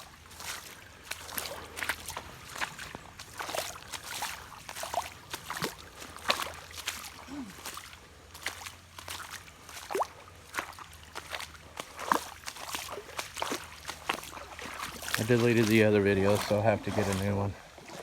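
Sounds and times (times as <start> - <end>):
person wading through water: 0.0 - 18.0
water trickling: 0.0 - 18.0.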